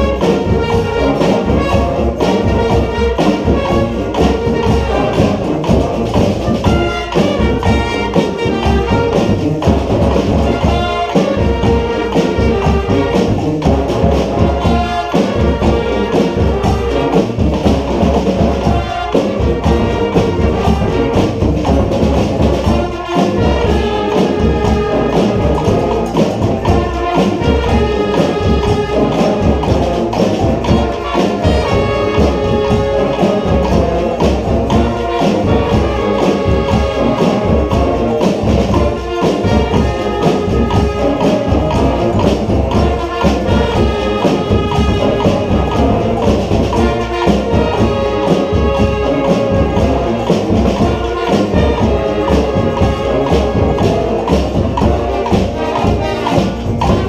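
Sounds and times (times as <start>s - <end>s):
brass horns playing: 0.0s - 57.0s
steady drum beat: 0.0s - 57.0s
tambourine-like percussion: 0.0s - 57.0s.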